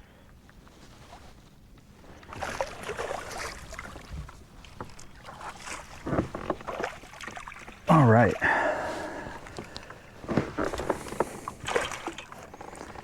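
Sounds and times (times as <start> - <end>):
water splashing: 2.1 - 13.0.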